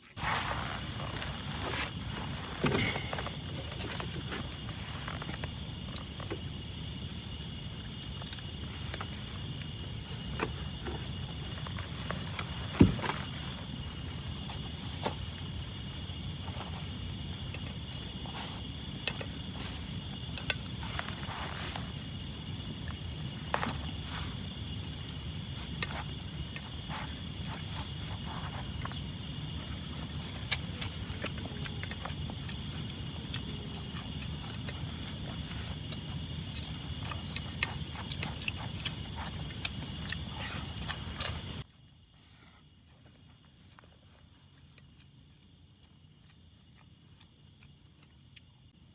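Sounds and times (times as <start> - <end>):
cricket chirping: 0.0 - 48.9.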